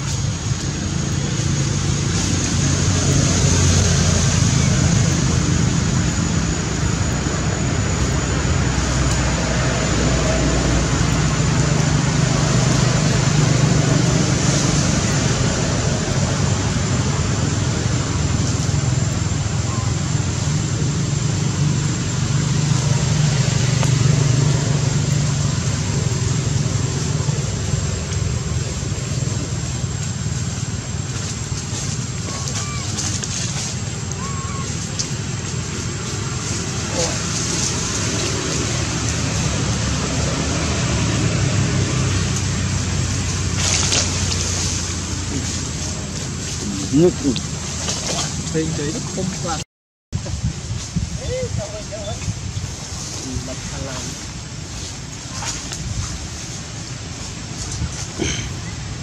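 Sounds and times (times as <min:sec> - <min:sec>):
low rumble: 0:00.0 - 0:49.6.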